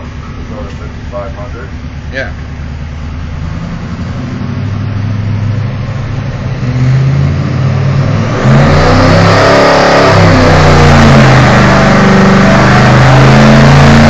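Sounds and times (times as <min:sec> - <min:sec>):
engine at full throttle: 0:00.0 - 0:14.0.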